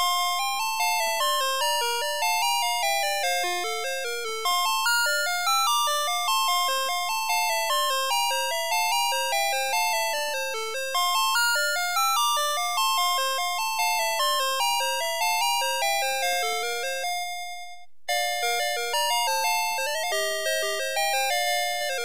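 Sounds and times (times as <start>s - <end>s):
toy chiming electronic melody: 0.0s - 17.1s, 18.1s - 22.0s.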